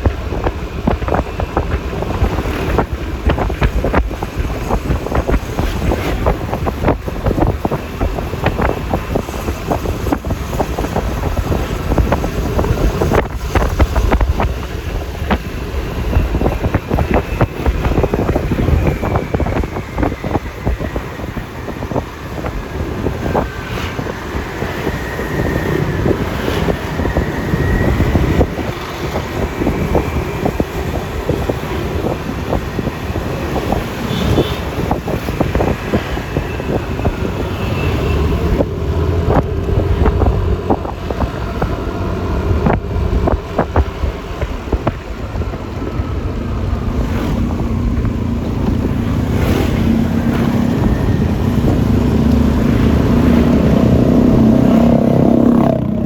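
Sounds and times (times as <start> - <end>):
scooter engine: 0.0 - 56.0
traffic: 0.0 - 56.0
wind buffeting microphone: 0.0 - 56.0.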